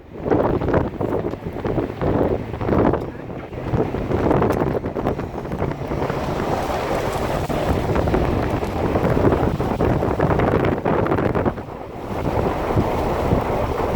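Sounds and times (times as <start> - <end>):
wind blowing against microphone: 0.0 - 13.9.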